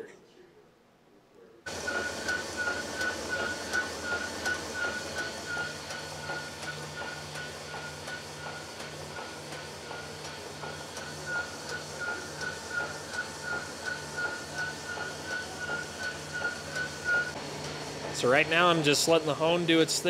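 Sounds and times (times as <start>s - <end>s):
honing machine whining: 1.7s - 20.0s.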